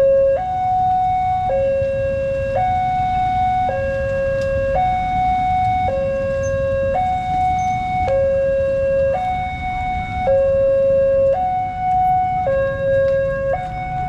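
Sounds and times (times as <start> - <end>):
low traffic rumble: 0.0 - 14.0
two-tone crossing alarm: 0.0 - 14.0.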